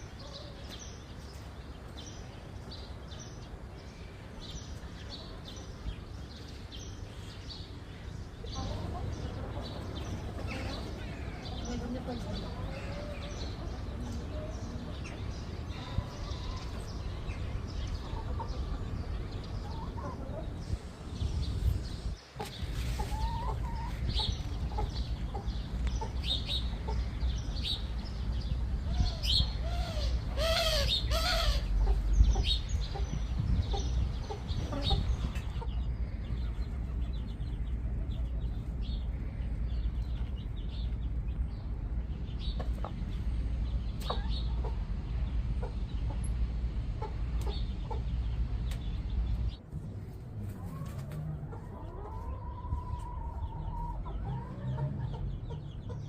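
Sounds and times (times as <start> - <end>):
chickens clucking: 0.0 - 2.0, 4.5 - 56.0
steady low rumble: 3.4 - 56.0.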